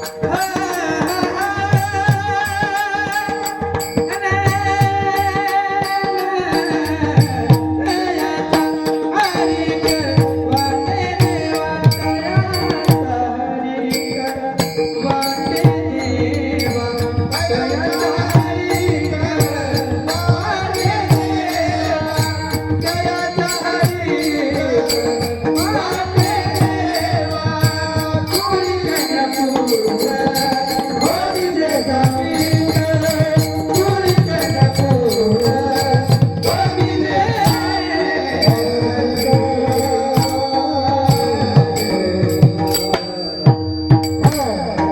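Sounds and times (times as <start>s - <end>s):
person singing: 0.0s - 44.9s
rhythmic jingling percussion: 0.0s - 44.9s.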